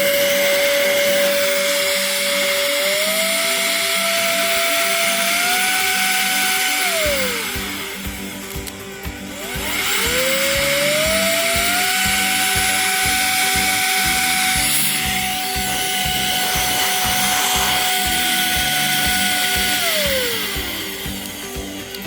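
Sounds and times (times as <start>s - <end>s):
background music with steady beat: 0.0s - 22.0s
electric air duster motor whine: 0.0s - 22.0s.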